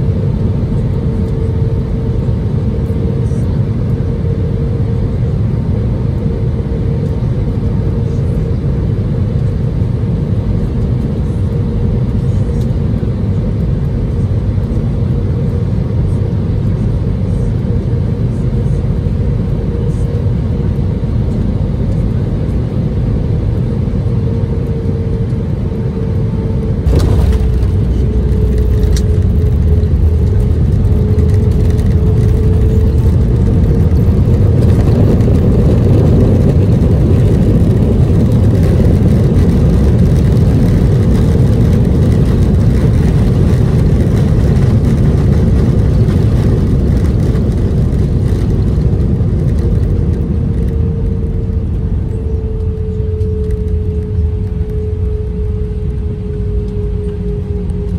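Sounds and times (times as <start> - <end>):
faint hum: 0.0 - 57.9
jet engine and airflow noise: 0.0 - 57.9.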